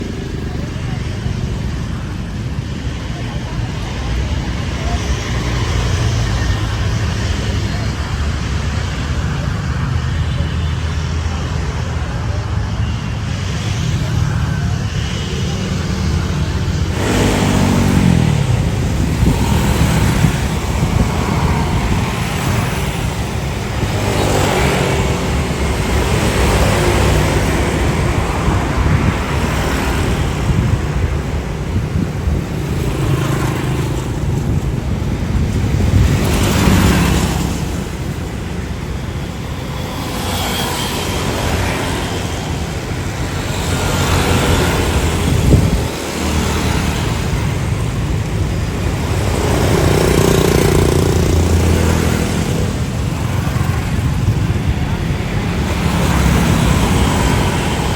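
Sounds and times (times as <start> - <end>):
low traffic rumble: 0.0 - 57.9
vehicles passing: 0.0 - 57.9.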